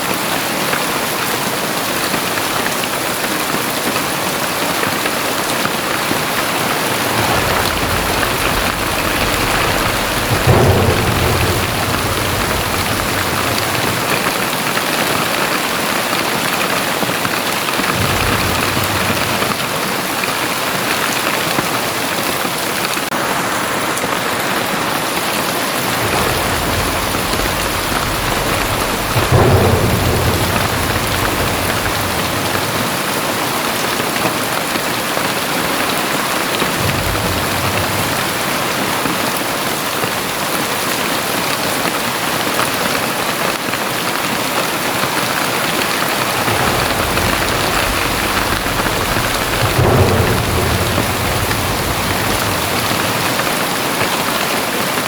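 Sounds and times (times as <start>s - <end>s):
heavy rain pouring: 0.0s - 55.0s
thunder rumbling: 0.0s - 55.0s.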